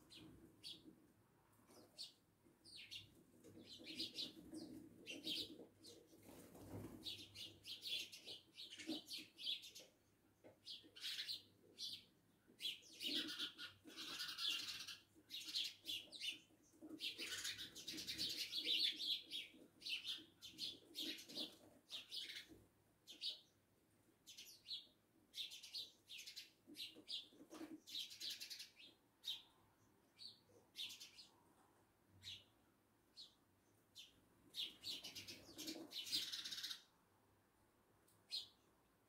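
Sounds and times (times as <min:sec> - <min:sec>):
sparrows chirping: 0:00.0 - 0:00.9, 0:01.7 - 0:06.4, 0:07.0 - 0:31.4, 0:32.1 - 0:36.9, 0:38.2 - 0:38.7.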